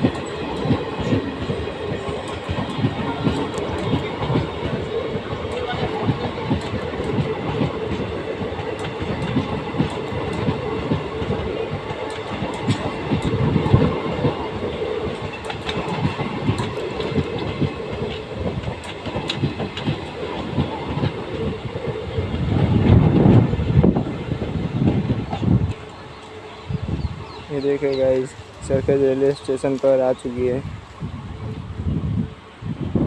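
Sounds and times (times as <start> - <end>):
train wheels clicking over rail joints: 0.0 - 30.4
train rumbling: 0.0 - 33.0.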